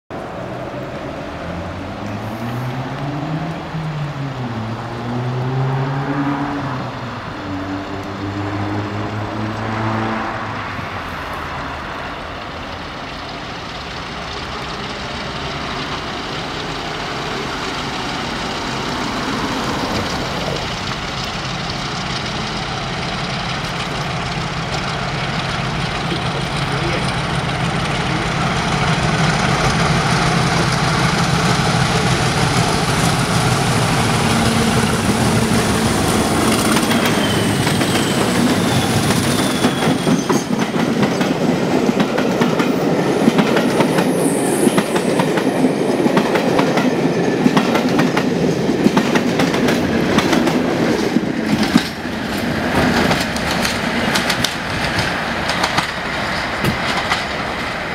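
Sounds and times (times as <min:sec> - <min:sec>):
diesel locomotives working hard: 0:00.1 - 0:57.9.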